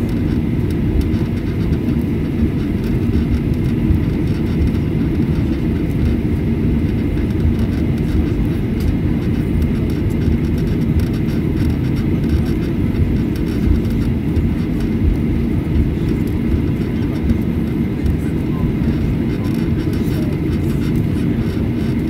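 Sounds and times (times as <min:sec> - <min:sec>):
jet engines low rumble: 0:00.0 - 0:22.0.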